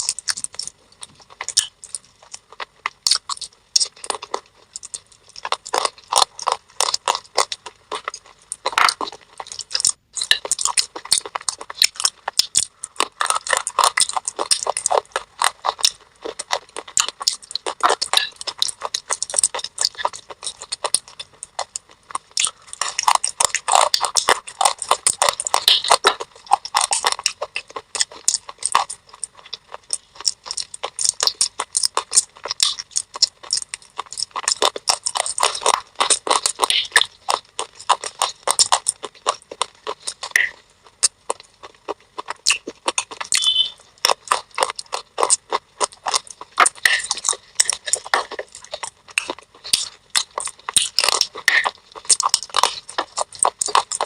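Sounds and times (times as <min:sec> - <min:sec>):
crunching and chewing clay: 0:00.0 - 0:54.0.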